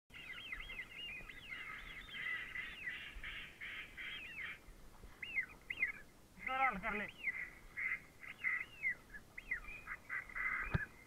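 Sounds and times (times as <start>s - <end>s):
flock of birds calling: 0.1s - 11.0s.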